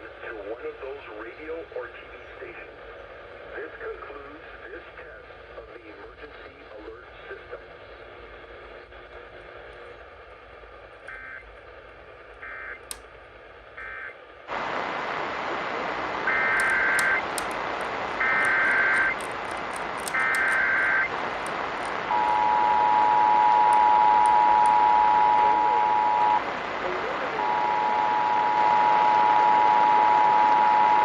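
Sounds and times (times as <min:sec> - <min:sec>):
steady radio hiss: 0:00.0 - 0:31.0.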